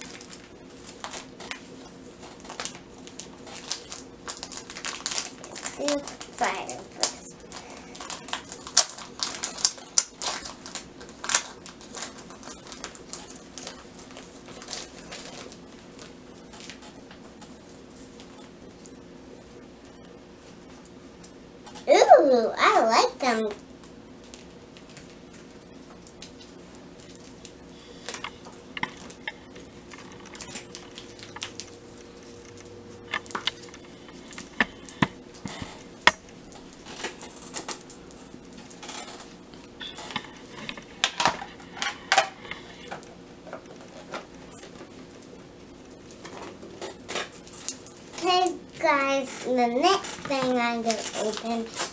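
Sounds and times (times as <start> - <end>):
packaging rustling: 0.0 - 17.2, 24.2 - 45.3, 45.9 - 51.9
paper wrapping crinkling: 0.0 - 18.9, 24.2 - 51.9.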